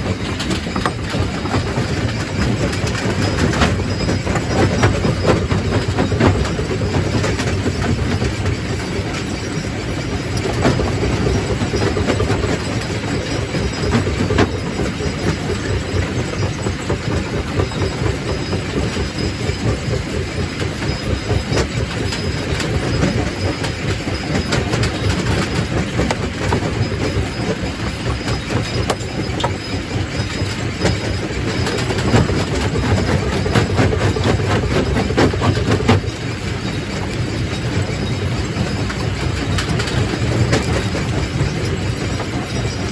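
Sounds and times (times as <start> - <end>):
rock crusher rumbling: 0.0 - 42.9.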